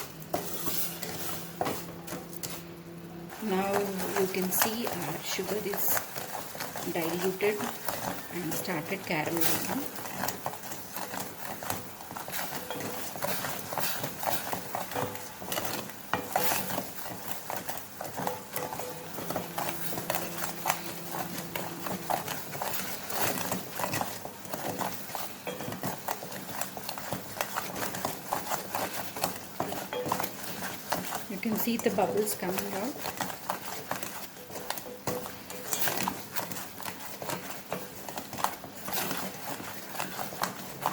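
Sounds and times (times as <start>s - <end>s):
utensil scraping a pan: 0.0s - 40.9s.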